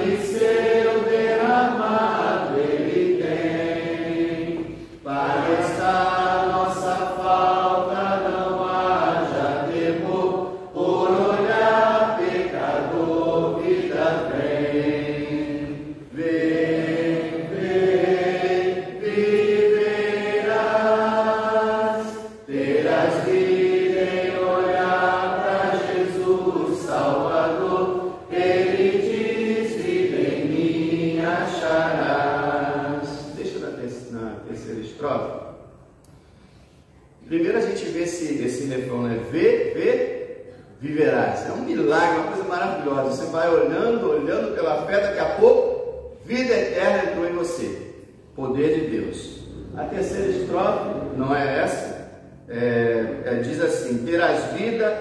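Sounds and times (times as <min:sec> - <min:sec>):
congregation singing a hymn: 0:00.0 - 0:35.6, 0:37.1 - 0:55.0.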